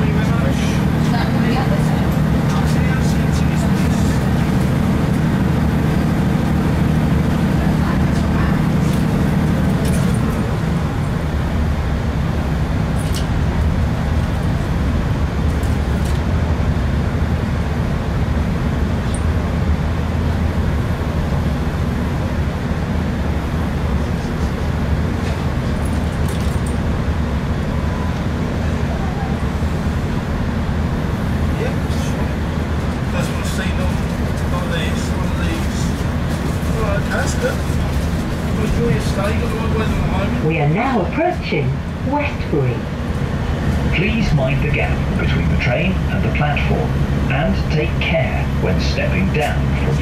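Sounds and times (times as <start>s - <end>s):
diesel engine drone: 0.0s - 50.0s
wheels rumbling on rail: 0.0s - 50.0s.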